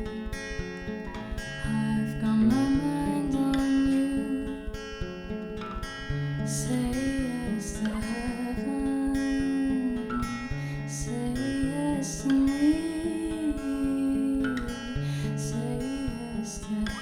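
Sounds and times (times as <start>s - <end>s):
strummed acoustic guitar: 0.0s - 17.0s
person singing slow song: 1.5s - 4.9s, 6.5s - 17.0s.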